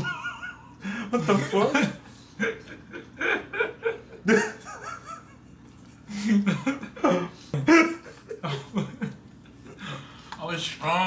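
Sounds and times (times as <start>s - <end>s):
men laughing: 0.0s - 10.2s.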